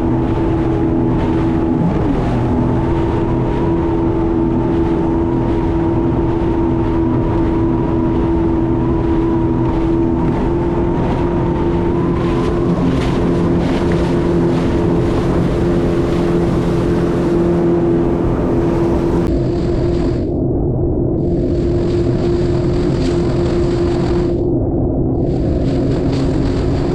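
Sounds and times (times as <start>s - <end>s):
jet ski engine drone: 0.0s - 26.9s.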